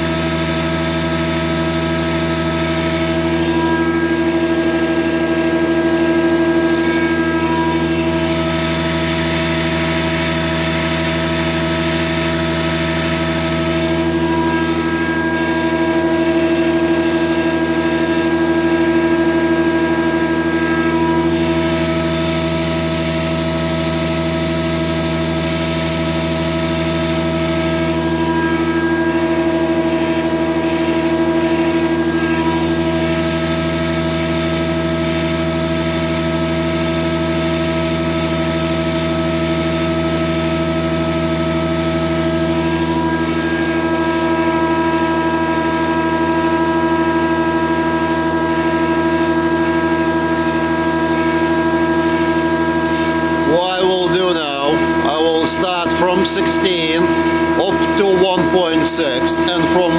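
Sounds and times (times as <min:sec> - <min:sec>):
planer motor whining: 0:00.0 - 0:59.9.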